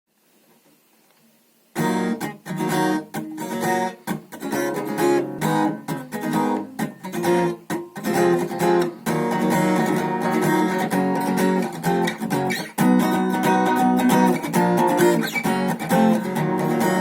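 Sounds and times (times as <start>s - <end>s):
acoustic guitar strumming: 1.7s - 17.0s.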